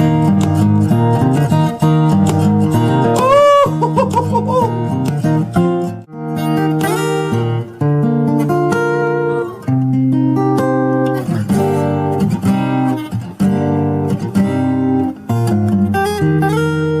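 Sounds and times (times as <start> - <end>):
acoustic guitar fingerstyle playing: 0.0 - 17.0.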